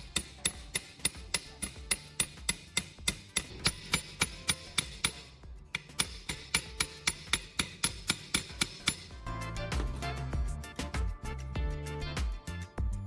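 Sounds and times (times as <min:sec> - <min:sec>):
rapid hammer blows: 0:00.0 - 0:11.4
background music: 0:00.0 - 0:13.0.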